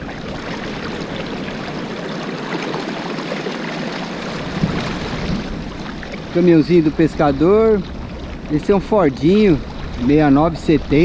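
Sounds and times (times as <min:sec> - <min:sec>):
river water rushing over sand: 0:00.0 - 0:11.0.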